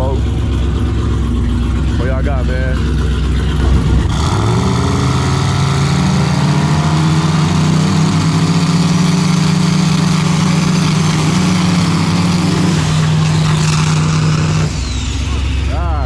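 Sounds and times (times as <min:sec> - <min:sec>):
truck engines revving high: 0:00.0 - 0:16.0.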